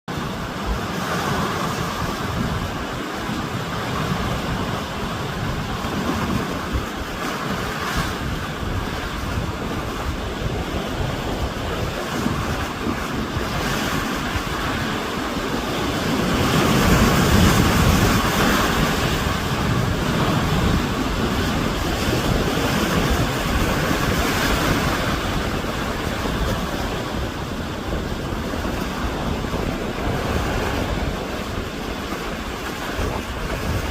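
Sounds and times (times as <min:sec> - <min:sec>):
sea waves breaking on shore: 0:00.1 - 0:33.9
wind buffeting microphone: 0:00.1 - 0:33.9.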